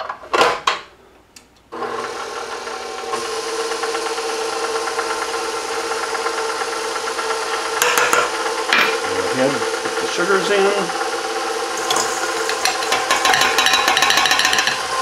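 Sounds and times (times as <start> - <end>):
stand mixer motor running: 1.8 - 15.0.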